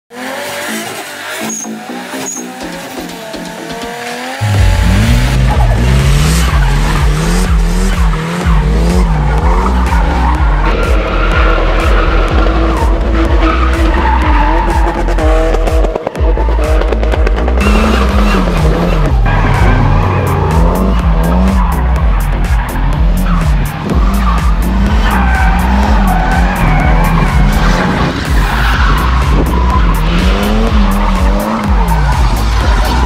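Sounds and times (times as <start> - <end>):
music with pulsing bass beat: 0.2 - 33.0.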